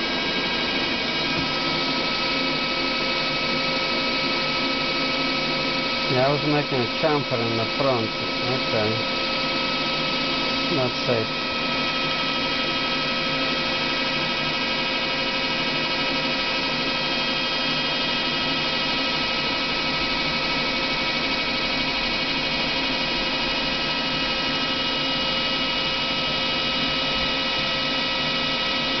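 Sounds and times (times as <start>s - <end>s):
lathe machine whine: 0.0s - 29.0s.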